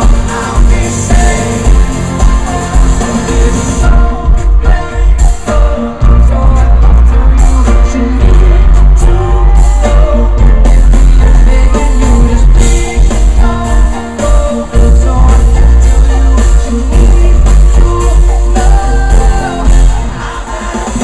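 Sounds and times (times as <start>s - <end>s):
live rock band with singing: 0.0s - 21.0s.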